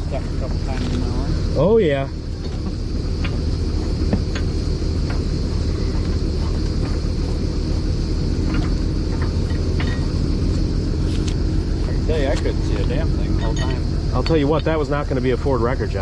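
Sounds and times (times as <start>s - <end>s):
engine running with low rumble: 0.0s - 16.0s.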